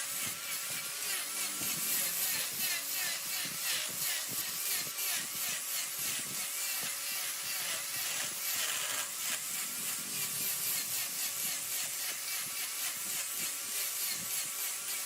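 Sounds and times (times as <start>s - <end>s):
turning tool scraping wood: 0.0s - 15.0s.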